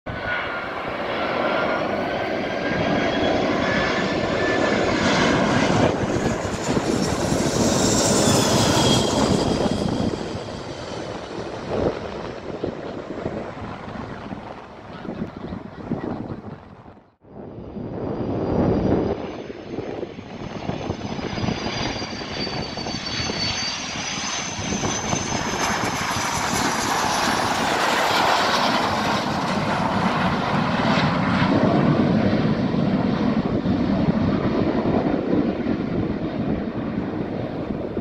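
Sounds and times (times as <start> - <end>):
jets flying overhead: 0.1 - 38.0.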